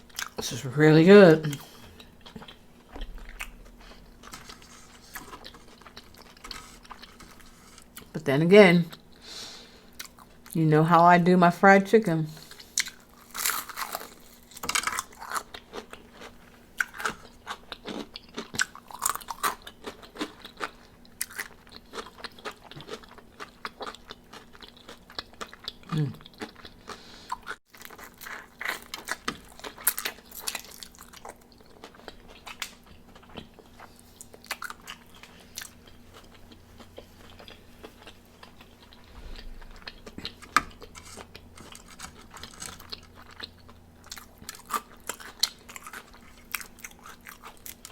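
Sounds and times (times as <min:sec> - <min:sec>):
crunching and chewing fried chicken: 0:00.0 - 0:00.5, 0:01.4 - 0:08.1, 0:08.9 - 0:10.6, 0:12.4 - 0:47.9.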